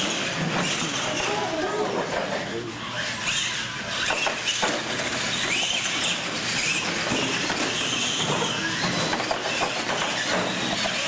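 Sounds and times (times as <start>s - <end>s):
electric toy truck motors whining: 0.0s - 11.0s.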